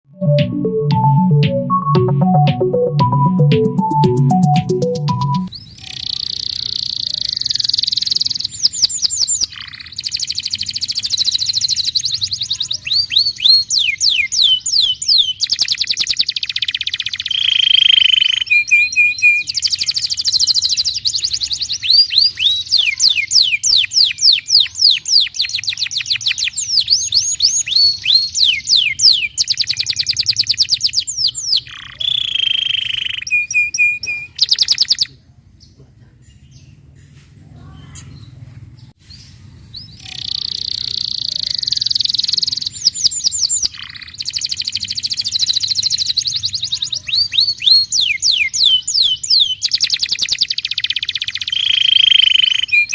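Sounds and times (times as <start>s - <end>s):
canary singing: 2.2s - 35.2s, 37.8s - 52.9s.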